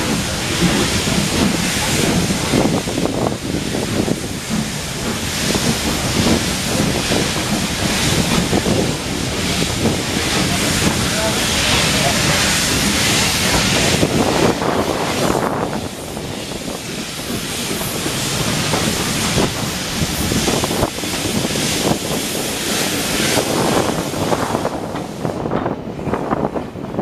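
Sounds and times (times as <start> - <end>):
steam hiss: 0.0 - 25.5
steam locomotive exhaust beats: 0.0 - 27.0.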